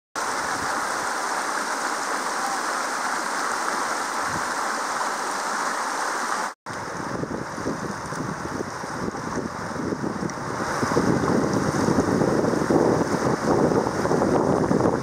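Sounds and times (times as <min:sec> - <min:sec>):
stream rushing: 0:00.2 - 0:15.0.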